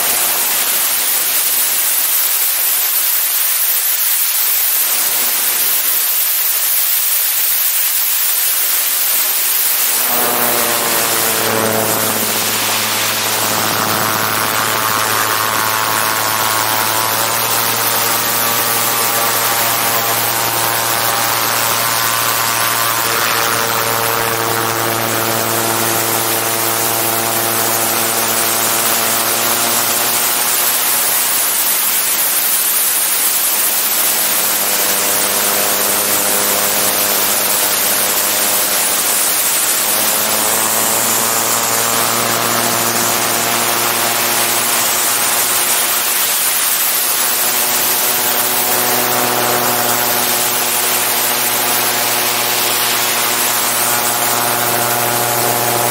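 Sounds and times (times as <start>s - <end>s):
aircraft engine and propeller: 0.0s - 55.9s
rush of airflow: 8.0s - 55.9s.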